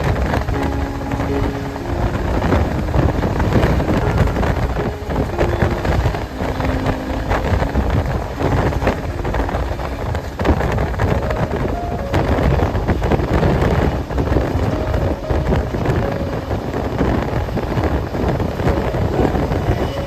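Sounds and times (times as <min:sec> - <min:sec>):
train rumbling at speed: 0:00.0 - 0:20.0
wind buffeting microphone: 0:00.0 - 0:20.0.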